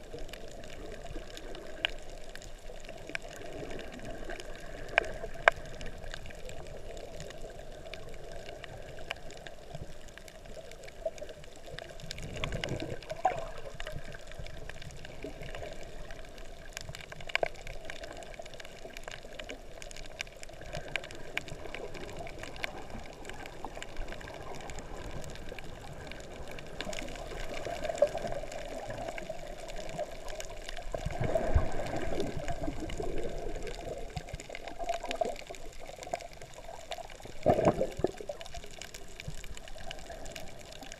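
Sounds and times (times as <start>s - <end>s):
underwater water surging: 0.0s - 40.9s.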